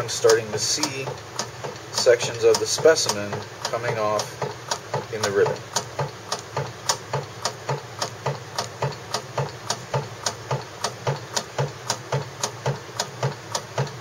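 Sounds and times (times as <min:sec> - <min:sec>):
microtome mechanism clicking: 0:00.0 - 0:14.0.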